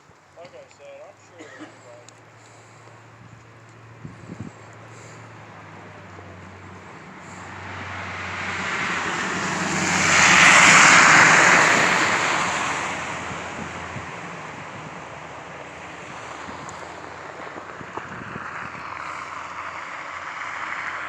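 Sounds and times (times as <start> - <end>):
road noise and engine drone: 0.0 - 21.0
rushing whoosh: 3.9 - 21.0.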